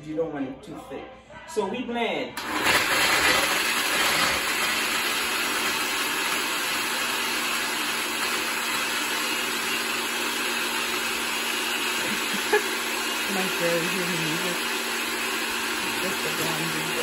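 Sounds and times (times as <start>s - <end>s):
blender running: 2.4s - 17.0s.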